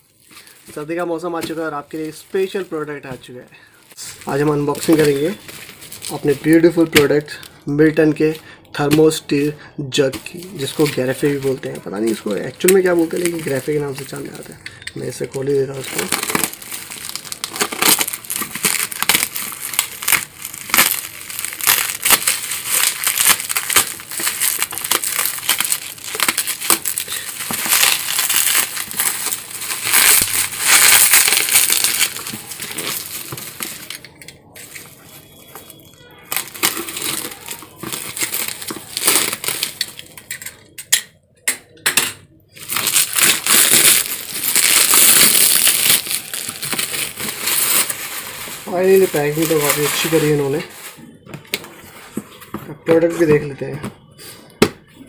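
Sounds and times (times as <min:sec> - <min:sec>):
plastic and bubble wrap crinkling: 0:00.0 - 0:40.8, 0:42.5 - 0:54.1.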